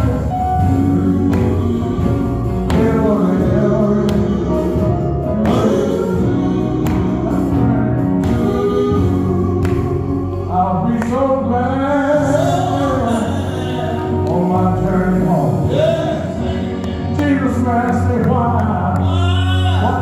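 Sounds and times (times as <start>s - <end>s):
bass accompaniment: 0.0s - 20.0s
guitar: 0.0s - 20.0s
men singing gospel: 0.0s - 20.0s.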